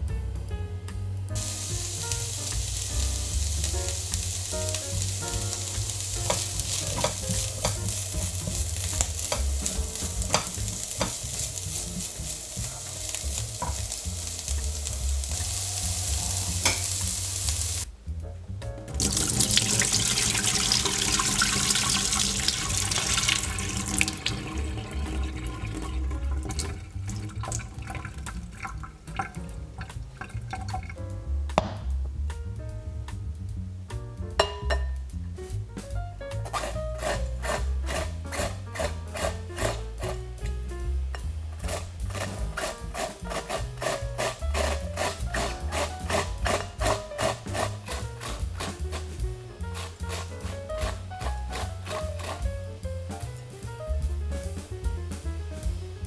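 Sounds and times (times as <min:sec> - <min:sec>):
vegetables sizzling in a pan: 0:01.4 - 0:17.9, 0:19.0 - 0:30.4, 0:34.4 - 0:54.1.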